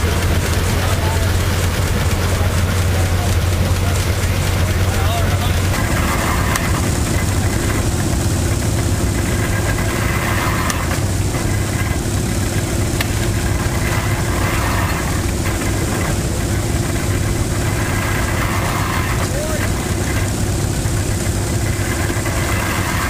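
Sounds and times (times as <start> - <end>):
old engine idling: 0.0 - 23.0.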